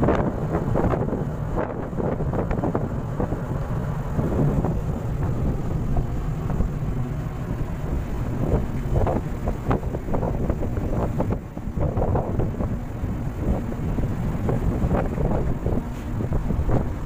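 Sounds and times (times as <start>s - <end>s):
sea rushing in ship's wake: 0.0s - 17.0s
wind buffeting microphone: 0.0s - 17.0s.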